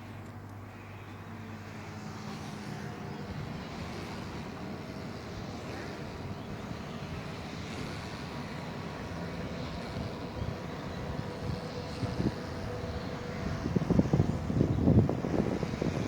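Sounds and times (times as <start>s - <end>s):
mechanical drone rumbling: 2.7s - 16.0s.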